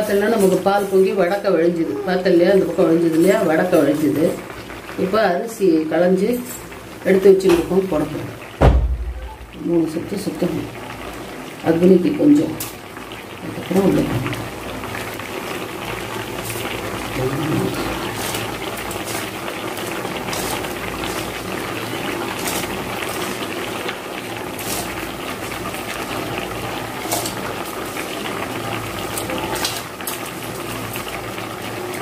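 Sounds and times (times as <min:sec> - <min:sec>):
milk boiling with bubbling hiss: 0:00.0 - 0:32.0.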